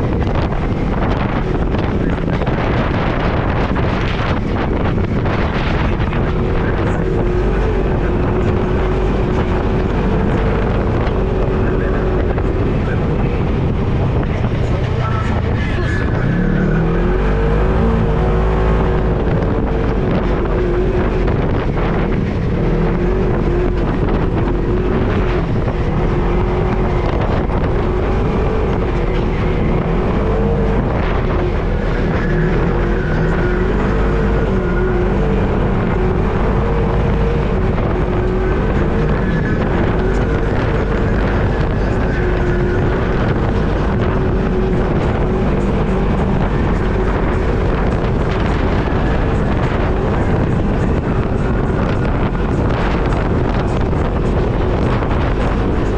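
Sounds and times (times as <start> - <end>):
off-road vehicle engine under load: 0.0 - 55.9.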